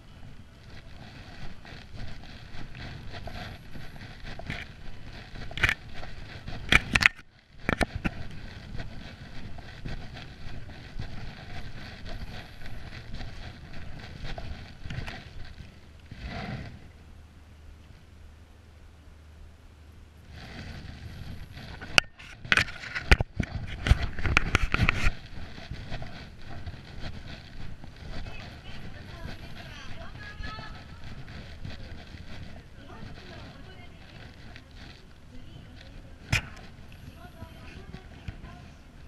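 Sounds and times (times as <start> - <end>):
wind on microphone: 0.0 - 17.0, 20.2 - 39.0
camera handling rumble: 0.6 - 16.9, 20.3 - 39.0.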